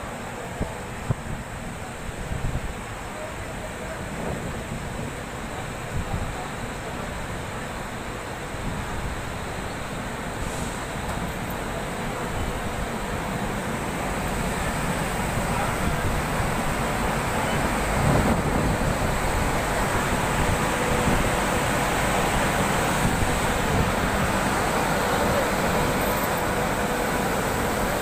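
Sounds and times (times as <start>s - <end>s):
train wheels on track: 0.0s - 28.0s.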